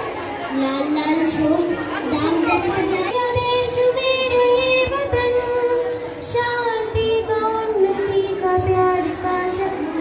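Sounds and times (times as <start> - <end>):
girl singing into a microphone: 0.5 - 10.0.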